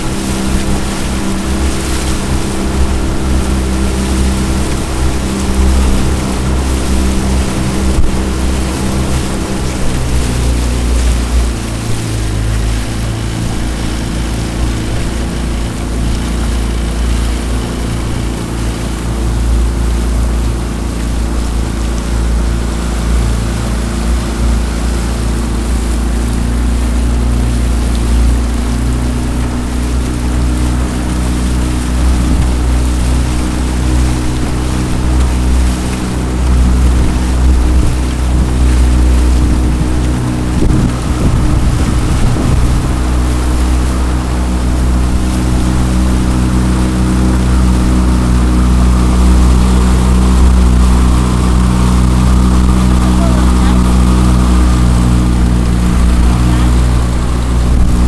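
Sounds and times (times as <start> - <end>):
outboard motor running: 0.0 - 58.0
wind and water rumble: 0.0 - 58.0.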